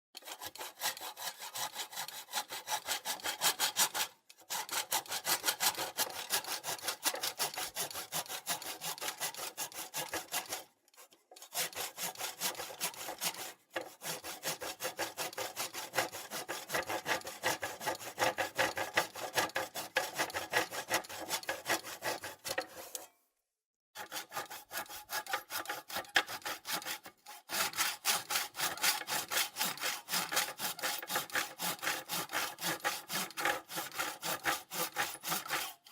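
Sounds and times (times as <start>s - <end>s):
handsaw cutting wood: 0.2s - 23.0s, 24.0s - 35.9s.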